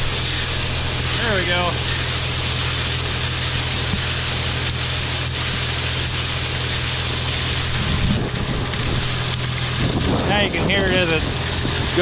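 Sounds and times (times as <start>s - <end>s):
corn kernels hissing against bin wall: 0.0s - 12.0s
low machinery hum: 0.0s - 12.0s.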